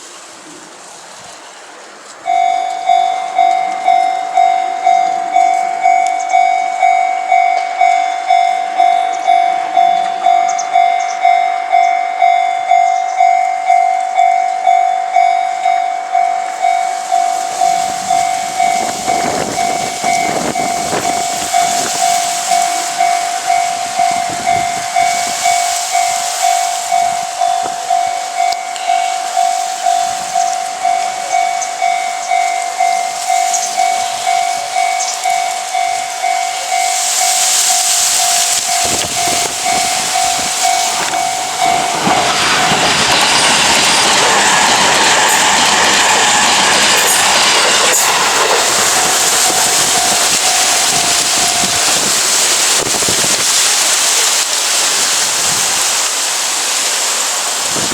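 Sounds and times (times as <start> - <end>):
train rumbling over crossing: 0.0 - 57.9
electronic level crossing bell: 2.2 - 53.3.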